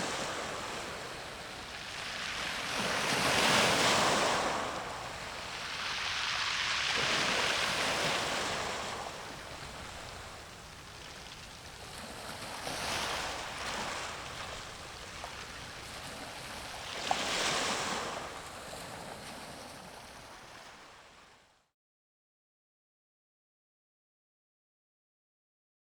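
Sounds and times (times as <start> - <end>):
sea waves washing in: 0.0 - 21.3
wind: 0.0 - 21.7.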